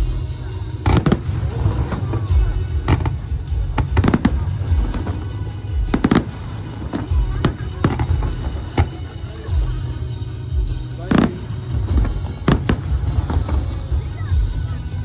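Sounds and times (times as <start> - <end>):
fireworks bangs and crackles: 0.0 - 10.0, 10.6 - 15.0
music playing: 0.0 - 15.0.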